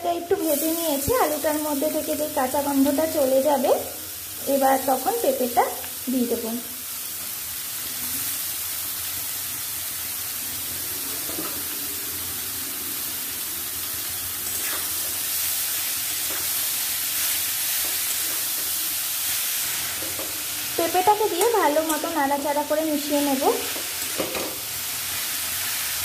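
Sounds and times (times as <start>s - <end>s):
oil sizzling: 0.0s - 26.0s.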